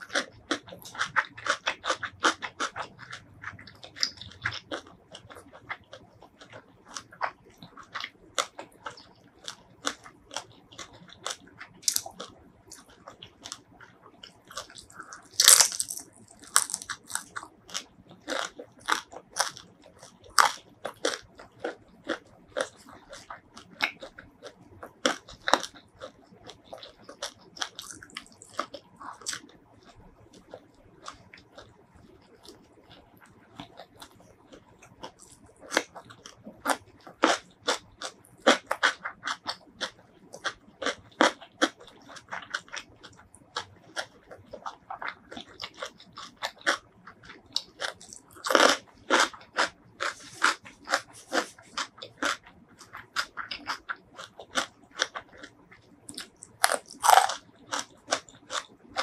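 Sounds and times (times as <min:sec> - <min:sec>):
chewing and crunching fried food: 0:00.0 - 0:59.0.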